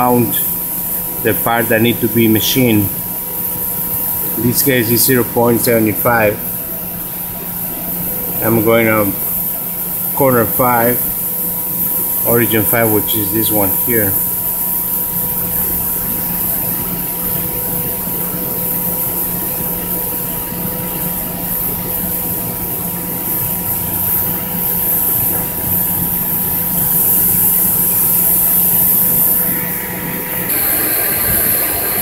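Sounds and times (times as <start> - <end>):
thin constant whine: 0.0 - 32.0
workshop machinery humming: 0.0 - 32.0.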